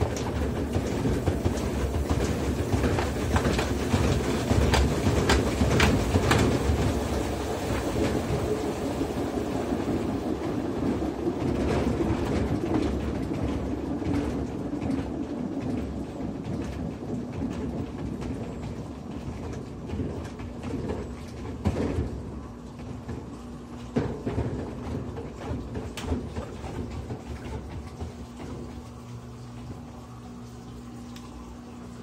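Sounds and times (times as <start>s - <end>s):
rapid clattering knocks: 0.0s - 8.5s, 10.4s - 28.9s
washing machine spinning: 0.0s - 32.0s.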